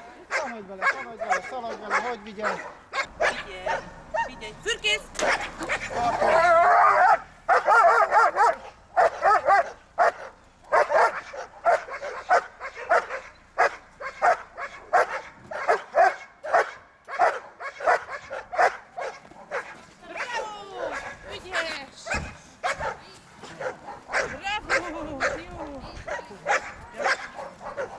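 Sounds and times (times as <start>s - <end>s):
dog barking: 0.3s - 4.4s, 5.2s - 27.9s.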